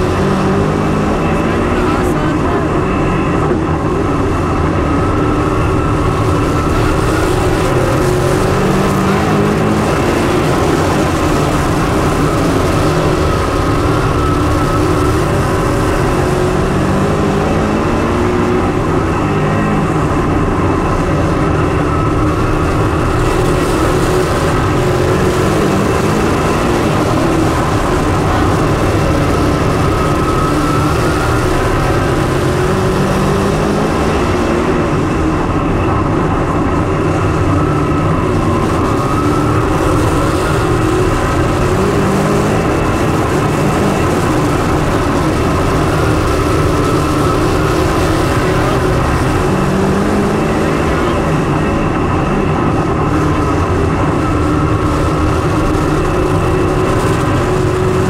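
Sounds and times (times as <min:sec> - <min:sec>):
vehicle engine drone: 0:00.0 - 0:58.0.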